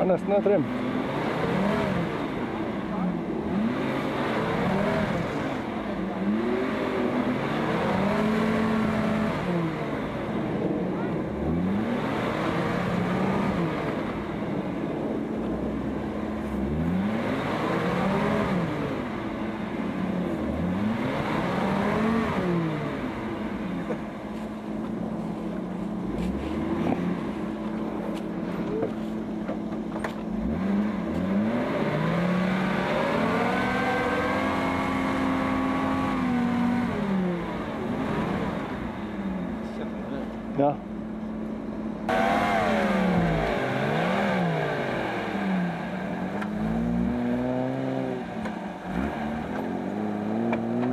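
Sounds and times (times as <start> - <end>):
truck engine revving: 0.0 - 24.1, 30.3 - 40.3, 42.0 - 50.9.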